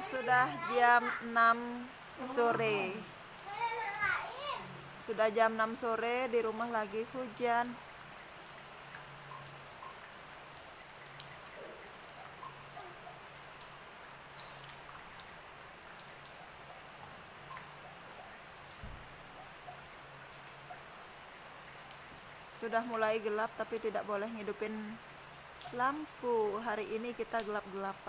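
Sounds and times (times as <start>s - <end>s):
steady rain falling: 0.0s - 28.0s
water drops dripping: 0.0s - 28.0s.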